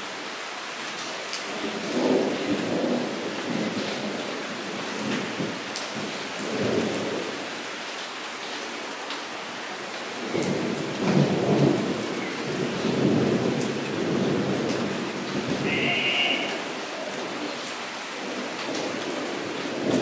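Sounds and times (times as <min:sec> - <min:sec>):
rain falling into puddle: 0:00.0 - 0:20.0.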